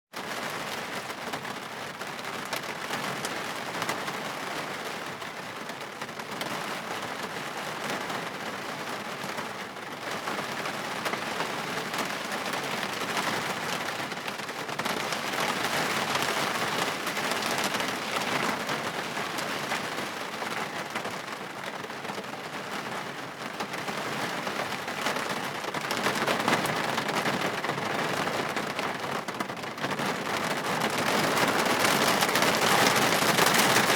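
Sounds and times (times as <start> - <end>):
heavy rain on a windshield: 0.2 - 33.9.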